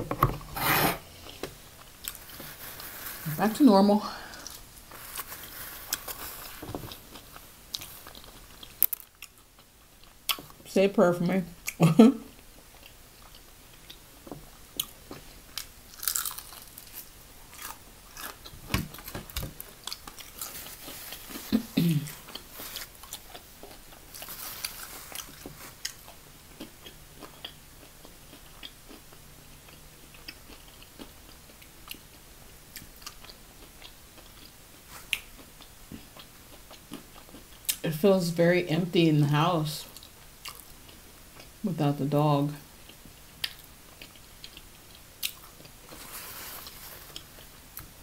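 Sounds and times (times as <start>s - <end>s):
crunching and chewing: 1.2s - 3.3s, 4.2s - 10.6s, 12.4s - 37.8s, 39.9s - 41.6s, 42.8s - 48.0s.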